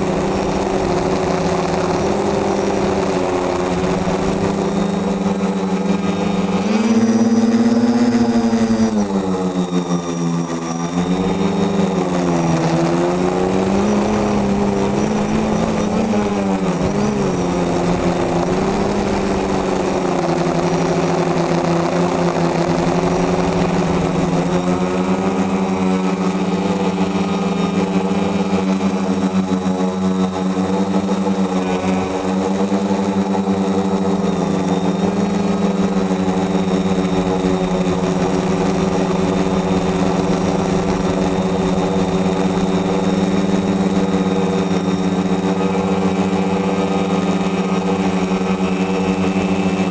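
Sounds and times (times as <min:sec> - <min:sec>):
drone propellers buzzing: 0:00.0 - 0:49.9
thin high whine: 0:00.0 - 0:49.9.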